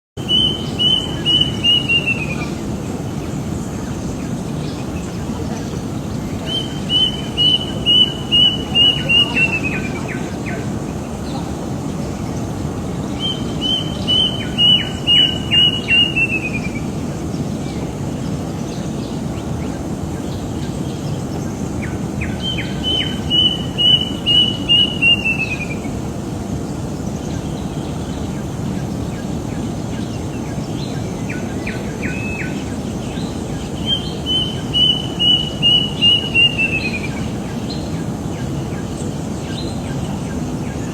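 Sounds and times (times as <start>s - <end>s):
steady low background noise: 0.2s - 40.9s.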